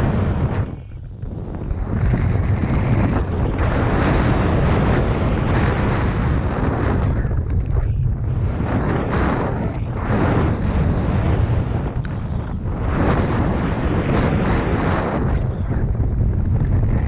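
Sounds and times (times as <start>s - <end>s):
bike tyres on dirt trail: 0.0s - 17.0s
wind buffeting microphone: 0.0s - 17.0s.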